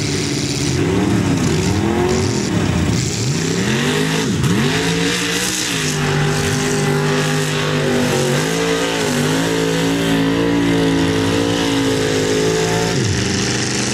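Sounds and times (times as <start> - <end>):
truck engine at high revs: 0.0 - 13.9.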